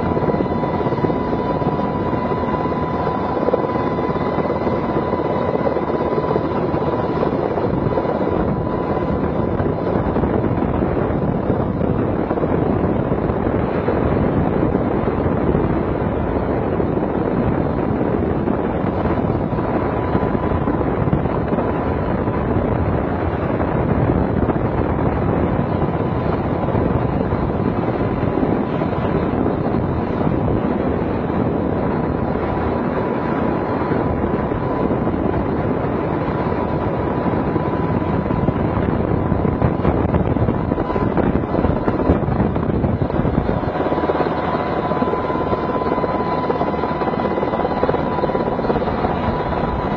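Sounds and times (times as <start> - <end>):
helicopter rotor and engine: 0.0 - 49.9
thin steady whine: 0.0 - 49.9.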